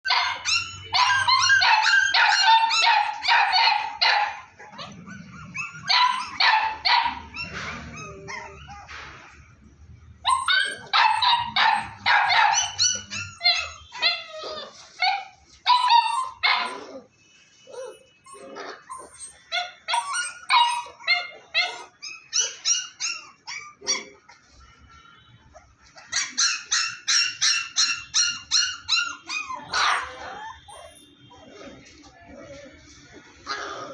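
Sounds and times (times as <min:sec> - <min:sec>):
dogs barking and yapping: 0:00.0 - 0:17.1, 0:17.7 - 0:24.7, 0:25.5 - 0:33.9.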